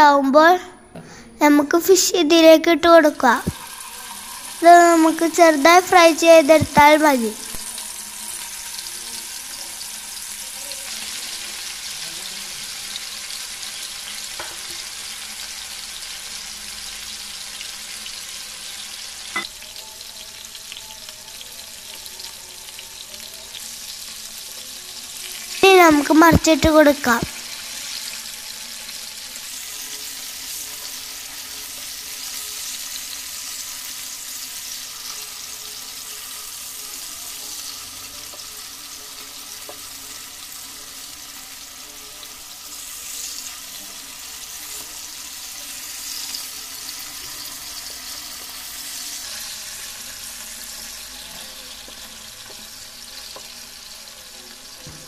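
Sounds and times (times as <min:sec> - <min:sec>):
spatula turning food in pan: 0:03.4 - 0:06.8, 0:07.4 - 0:25.8, 0:27.3 - 0:55.0
fish sizzling in hot oil: 0:03.4 - 0:55.0.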